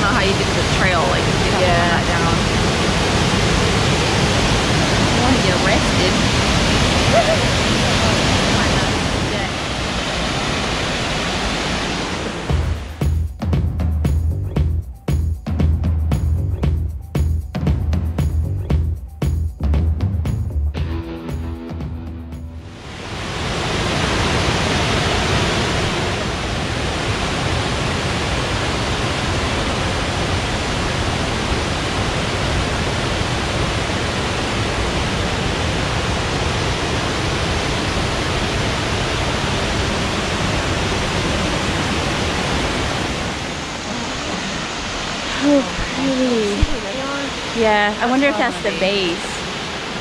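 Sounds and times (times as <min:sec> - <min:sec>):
waterfall roaring: 0:00.0 - 0:13.0, 0:22.7 - 0:50.0.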